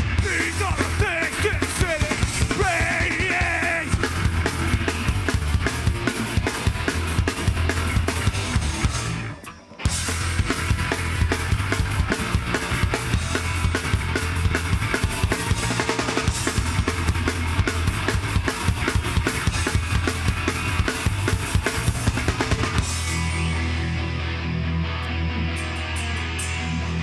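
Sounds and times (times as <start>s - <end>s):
fast dense drumming: 0.0s - 9.2s, 9.9s - 23.2s
live band playing: 0.0s - 24.5s.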